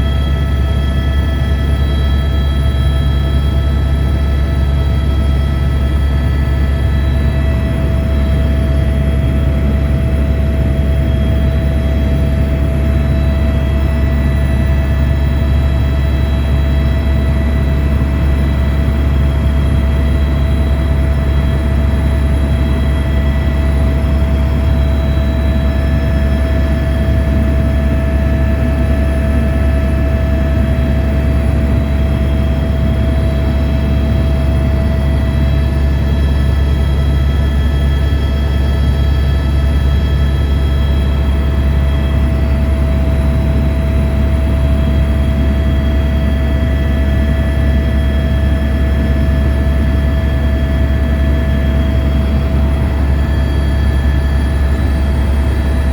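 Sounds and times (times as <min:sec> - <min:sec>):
helicopter drone and whine: 0:00.0 - 0:55.9.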